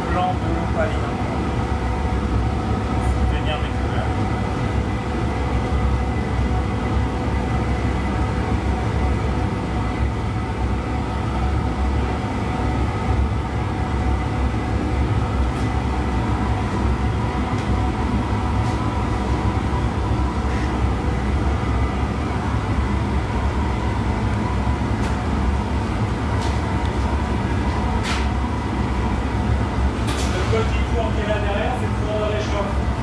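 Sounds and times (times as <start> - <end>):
furnace and burner blower roar: 0.0 - 33.0.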